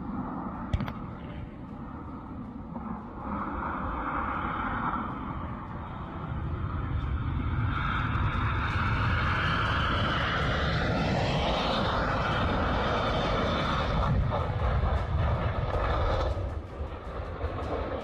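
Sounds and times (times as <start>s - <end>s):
airplane engine rushing: 0.0s - 18.0s.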